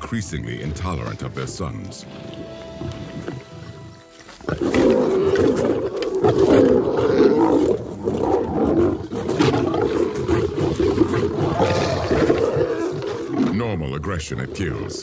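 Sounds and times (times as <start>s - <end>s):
lions snarling: 2.1s - 15.0s.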